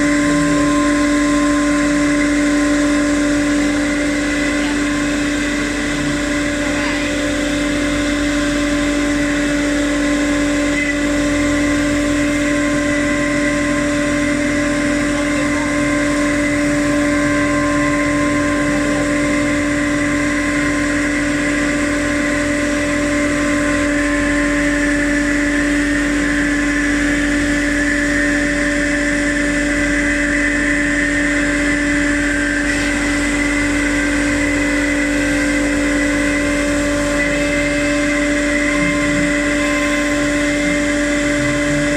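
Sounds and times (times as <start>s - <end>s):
router machine humming and whining: 0.0s - 41.9s.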